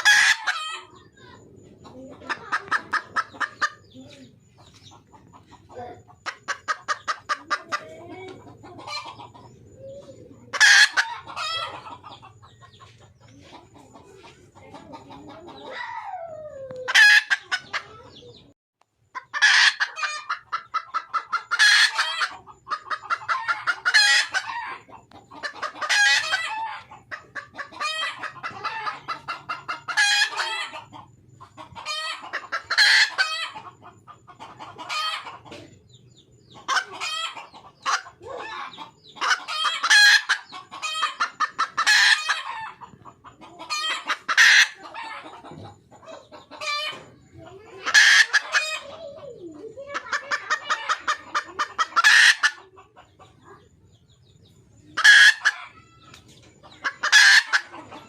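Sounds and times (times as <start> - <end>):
hen clucking: 0.0 - 58.0.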